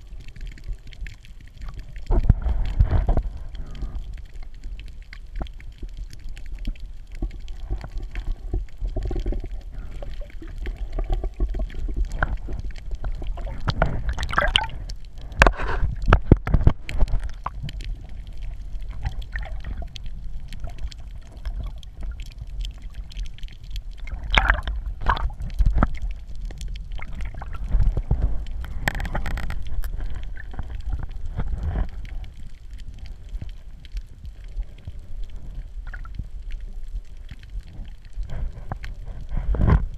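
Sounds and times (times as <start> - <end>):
splashing and bubbling bursts: 0.0 - 36.4
muffled underwater sloshing: 0.0 - 39.9.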